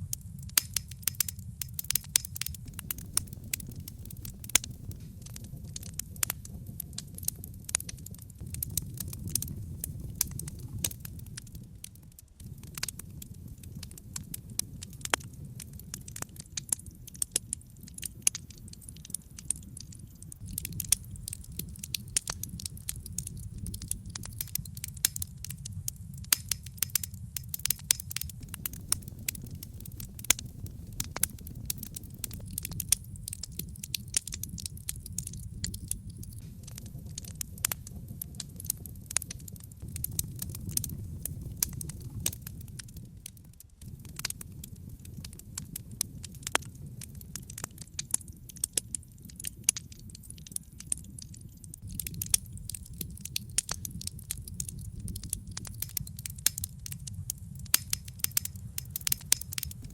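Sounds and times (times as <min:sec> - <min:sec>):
fire rumbling: 0:00.0 - 0:59.9
wood crackling and popping: 0:00.0 - 0:59.9.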